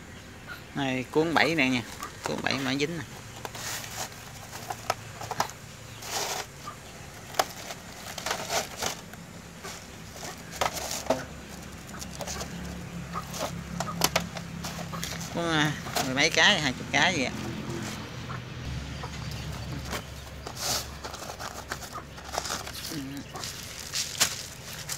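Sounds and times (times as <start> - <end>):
chickens clucking: 0.0 - 24.9
steady low hum: 0.0 - 24.9.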